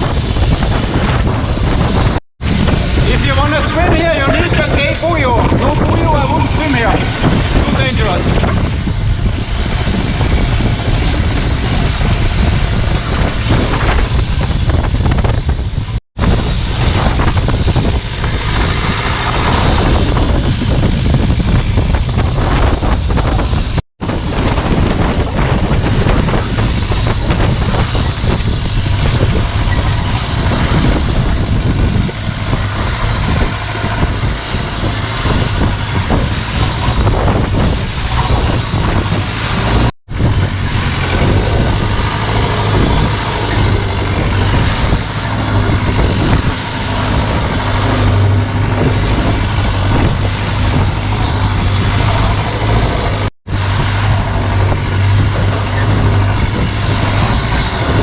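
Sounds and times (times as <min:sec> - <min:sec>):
boat engine running: 0:00.0 - 0:58.0
wind buffeting microphone: 0:00.0 - 0:58.0.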